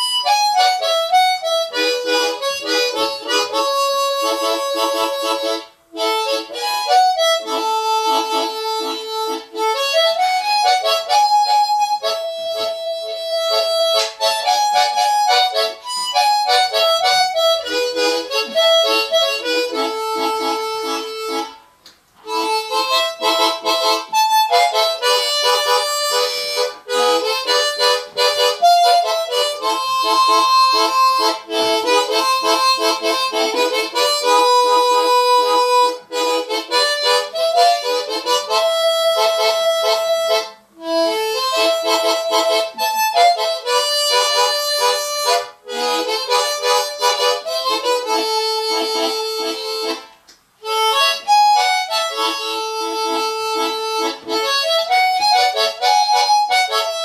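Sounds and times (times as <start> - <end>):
solo harmonica folk melody: 0.0 - 57.0.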